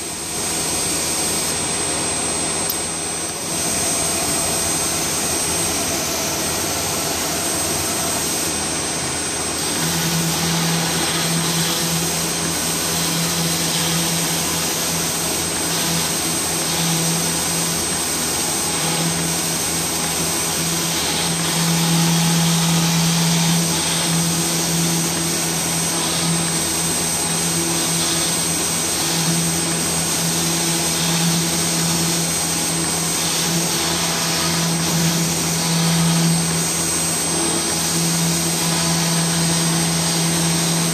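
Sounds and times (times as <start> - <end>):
cutter milling grooves: 0.0 - 40.9
dust extraction running: 0.0 - 40.9
router spindle whining: 0.0 - 40.9.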